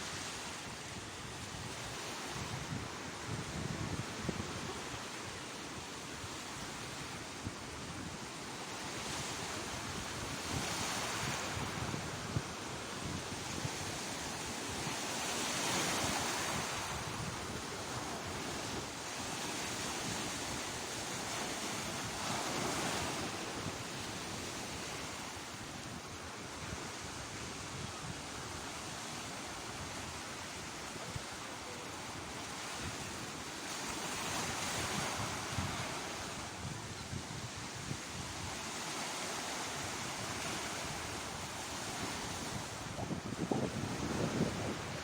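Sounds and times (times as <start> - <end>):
wind rumbling on microphone: 0.1 - 5.5, 6.3 - 45.0
waves breaking: 4.0 - 27.6, 28.2 - 45.0.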